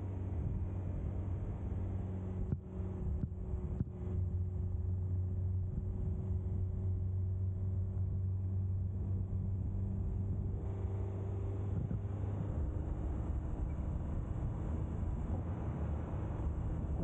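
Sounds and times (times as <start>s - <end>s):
van engine and road drone: 0.0s - 17.0s.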